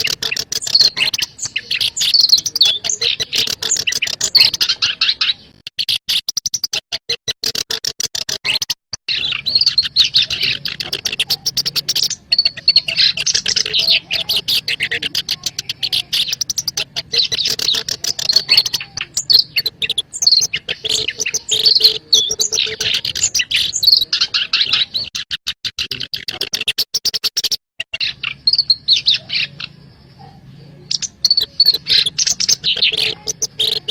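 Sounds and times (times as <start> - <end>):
warbler scratchy chattering song: 0.0 - 33.9.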